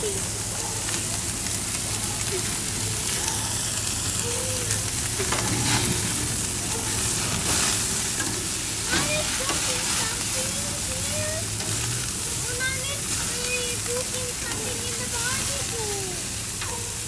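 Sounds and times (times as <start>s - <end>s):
steaks sizzling on a grill: 0.0s - 17.0s.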